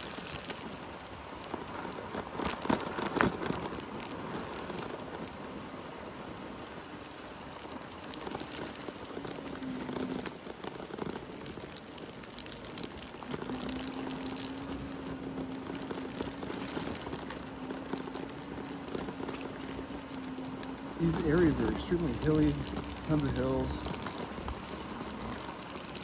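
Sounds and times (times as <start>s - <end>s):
scooter motor whine: 0.0s - 26.0s
tyres hissing on wet path: 0.0s - 26.0s
wind: 0.0s - 26.0s.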